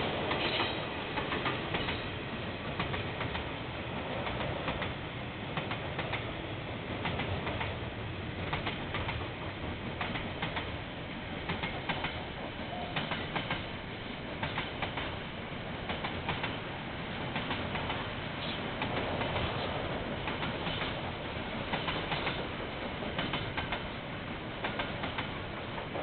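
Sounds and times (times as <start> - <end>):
train wheels clicking over rail joints: 0.0 - 6.3, 6.9 - 26.0
train rumble: 0.0 - 26.0.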